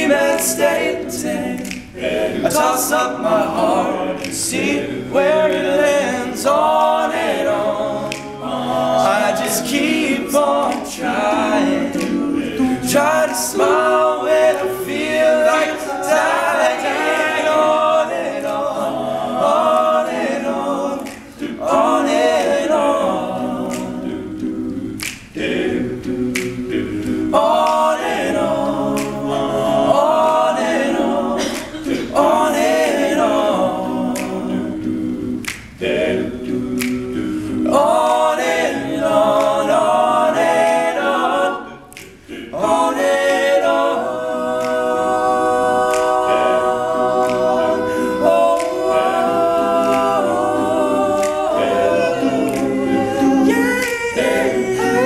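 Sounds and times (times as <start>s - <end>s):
male group singing a cappella: 0.0s - 55.0s
sharp percussive clicks: 0.1s - 54.9s.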